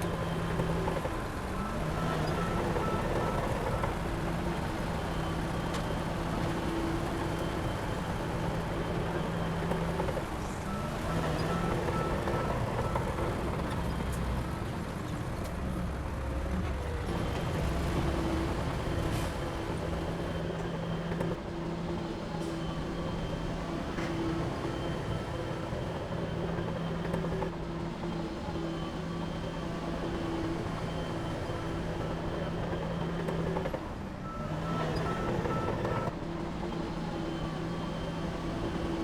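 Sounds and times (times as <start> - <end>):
diesel machinery engine hum: 0.0 - 39.0.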